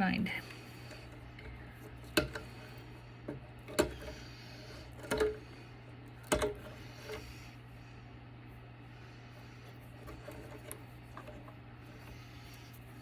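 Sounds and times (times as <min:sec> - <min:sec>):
parts being handled: 0:00.5 - 0:07.6, 0:09.6 - 0:13.0.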